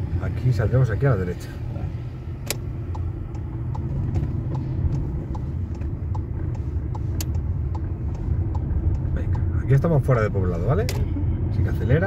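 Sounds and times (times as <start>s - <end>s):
car engine and road rumble: 0.0s - 12.0s
turn indicator ticking: 0.0s - 12.0s.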